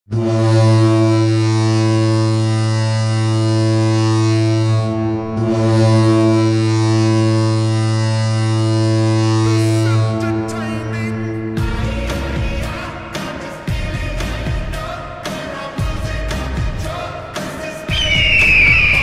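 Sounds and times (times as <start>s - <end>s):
low goal horn blast: 0.1s - 19.0s.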